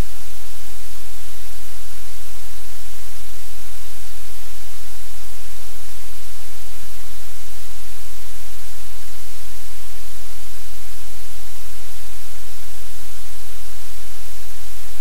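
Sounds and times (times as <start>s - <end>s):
low electrical hum: 0.0s - 15.0s
static hiss: 0.0s - 15.0s.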